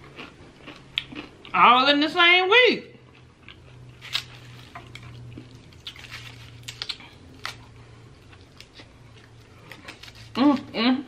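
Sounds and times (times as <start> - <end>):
person eating: 0.0 - 1.6, 3.0 - 10.8
low steady hum: 0.0 - 11.0.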